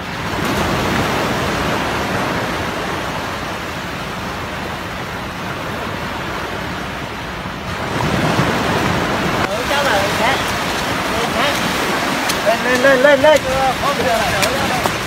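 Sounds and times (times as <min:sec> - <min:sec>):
surf washing over beach: 0:00.0 - 0:15.0.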